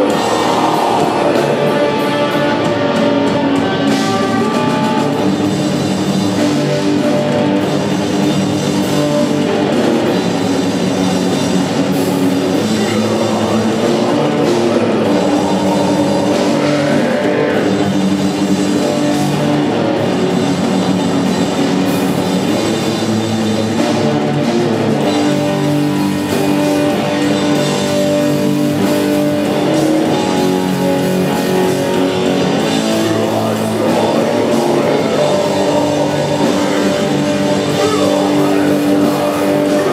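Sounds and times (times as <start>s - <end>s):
drum kit: 0.0s - 39.9s
electric guitars: 0.0s - 39.9s
rock band playing live: 0.0s - 39.9s.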